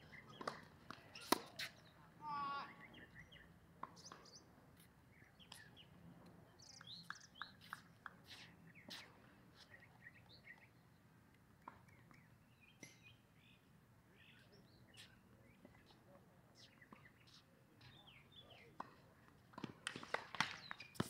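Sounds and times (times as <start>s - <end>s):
birds chirping: 0.0s - 19.1s.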